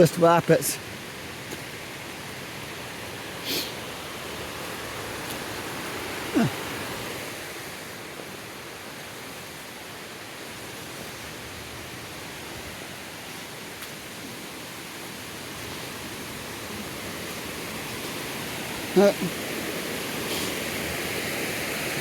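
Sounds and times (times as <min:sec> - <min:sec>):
creek rapids rushing: 0:00.0 - 0:22.0.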